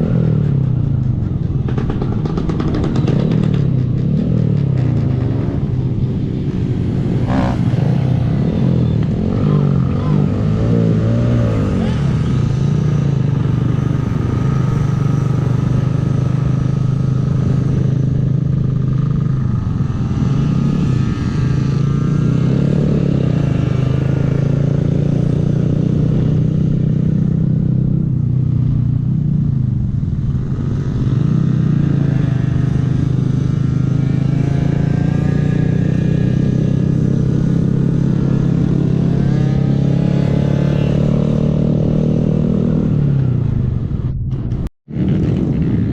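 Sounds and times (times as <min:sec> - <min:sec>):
motorcycle engine running: 0:00.0 - 0:45.9
wind rumble on microphone: 0:00.0 - 0:45.9.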